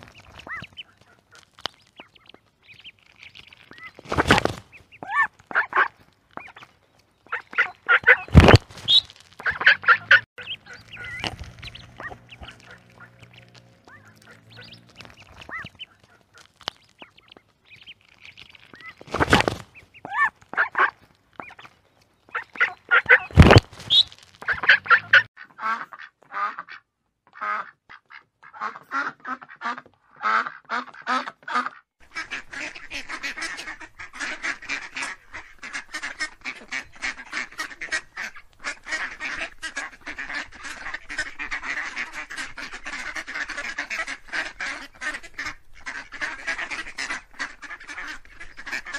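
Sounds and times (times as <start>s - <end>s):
ducks quacking: 0.0s - 48.9s.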